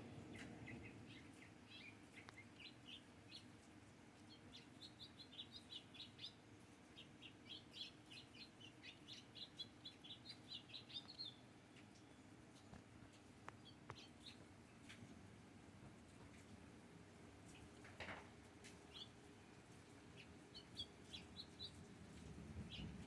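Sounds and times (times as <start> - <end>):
faint low hum: 0.0 - 23.0
bird chirping: 0.1 - 15.0, 18.8 - 23.0.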